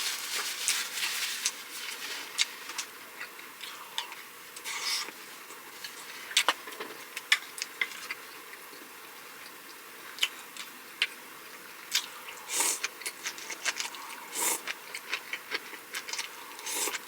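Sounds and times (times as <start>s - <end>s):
soft chewing with mouth clicks: 1.4s - 17.0s.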